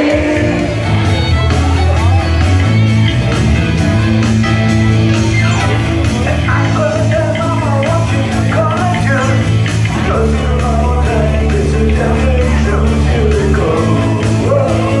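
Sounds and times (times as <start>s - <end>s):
bass guitar: 0.0s - 15.0s
keyboard melody: 0.0s - 15.0s.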